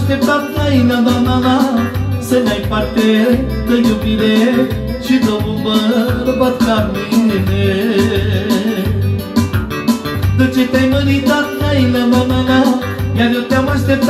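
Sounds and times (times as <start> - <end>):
backing track with beat and bass: 0.0 - 14.0
man singing: 0.0 - 14.0
plucked guitar-like lead: 0.0 - 14.0.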